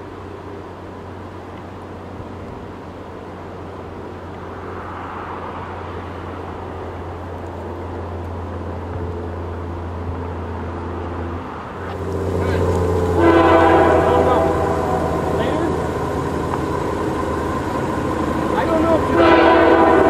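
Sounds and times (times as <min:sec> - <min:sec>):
diesel locomotive engine rumble: 0:00.0 - 0:20.0
train noisy wash: 0:00.0 - 0:20.0.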